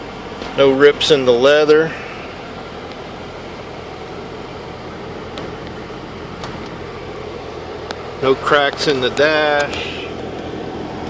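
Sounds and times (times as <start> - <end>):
radiator cooling fans whirring: 0.0 - 11.0.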